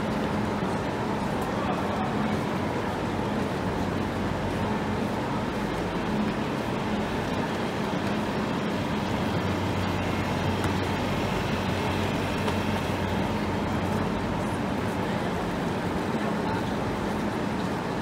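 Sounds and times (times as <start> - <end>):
busy train shed noise: 0.0 - 18.0
stationary train humming: 0.0 - 18.0.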